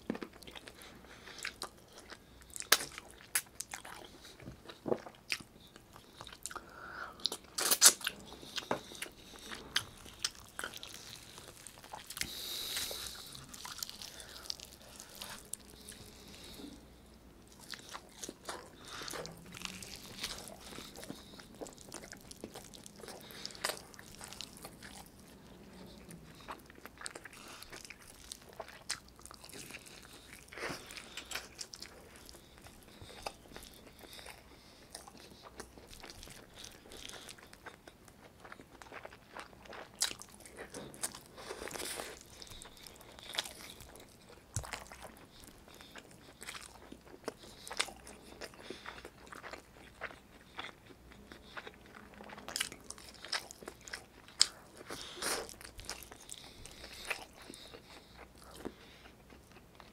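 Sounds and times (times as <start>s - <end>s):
chewing food: 0.0s - 59.9s.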